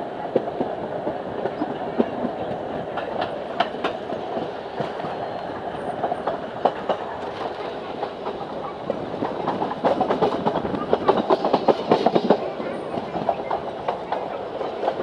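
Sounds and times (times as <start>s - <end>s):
train wheels rumbling on rails: 0.0s - 15.0s
wheels clicking over rails: 0.4s - 15.0s.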